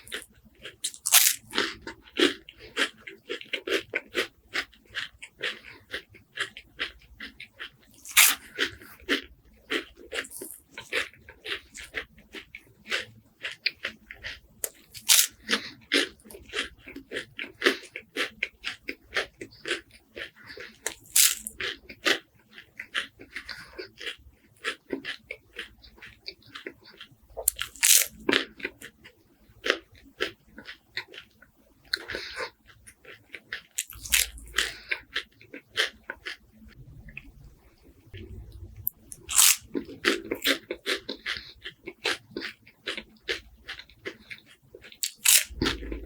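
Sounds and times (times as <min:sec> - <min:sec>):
crunching crispy wafers: 0:00.0 - 0:36.4, 0:38.8 - 0:46.0.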